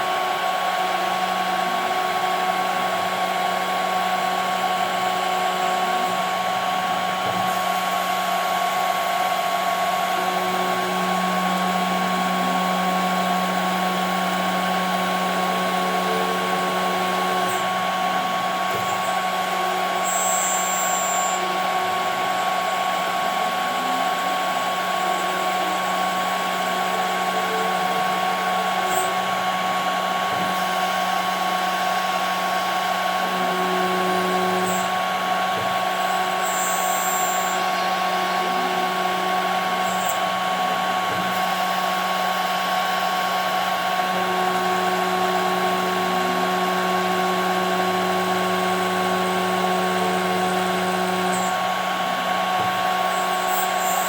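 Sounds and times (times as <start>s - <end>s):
router spindle high whine: 0.0s - 54.0s.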